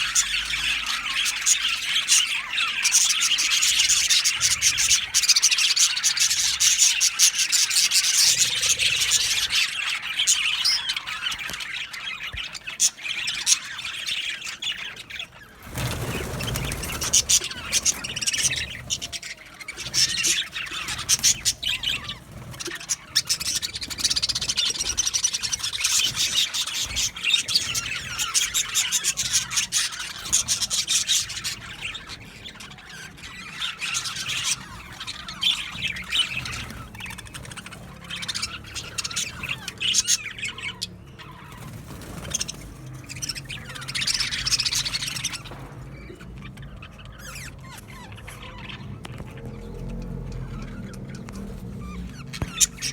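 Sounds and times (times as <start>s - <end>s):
budgerigars chattering: 0.0s - 52.9s.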